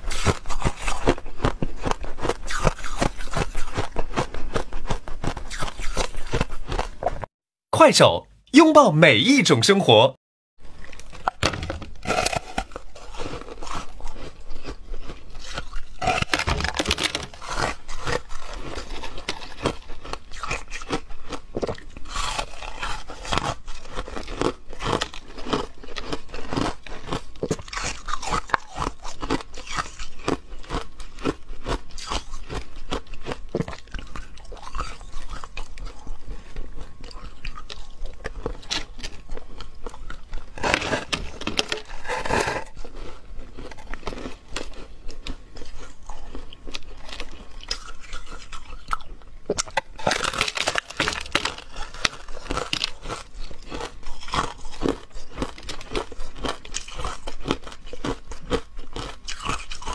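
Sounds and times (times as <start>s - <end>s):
ice being chewed: 0.0s - 7.3s, 10.6s - 59.9s.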